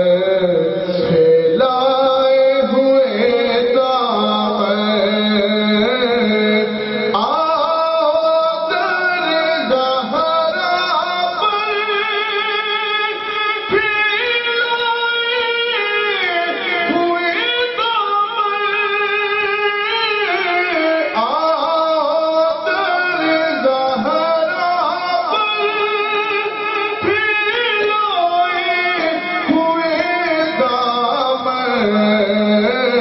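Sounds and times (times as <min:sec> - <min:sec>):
man singing solo: 0:00.0 - 0:33.0.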